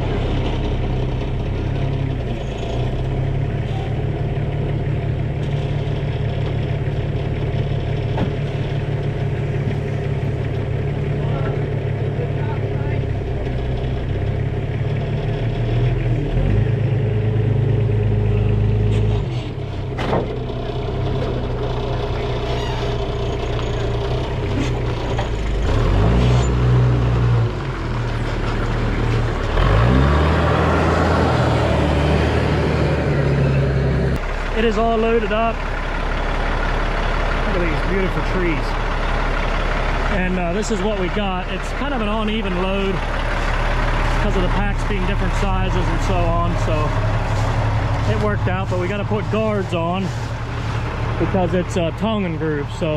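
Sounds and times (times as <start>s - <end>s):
diesel truck engine idling: 0.0s - 52.9s.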